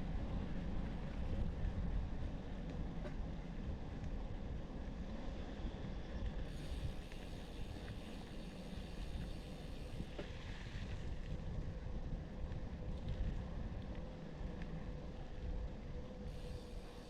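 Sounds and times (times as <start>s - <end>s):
faint constant hum: 0.0s - 17.0s
wind rumbling on microphone: 0.0s - 17.0s.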